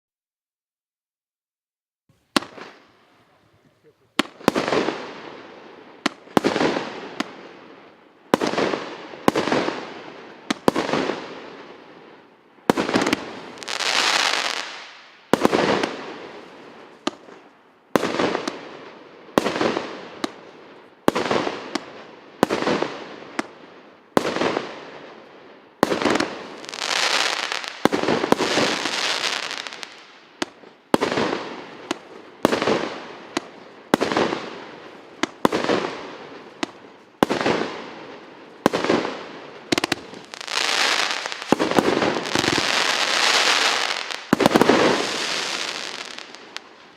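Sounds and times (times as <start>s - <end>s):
firework bangs: 2.3s - 25.1s, 25.7s - 46.9s
firework crackling bursts: 3.9s - 20.4s, 21.0s - 46.9s.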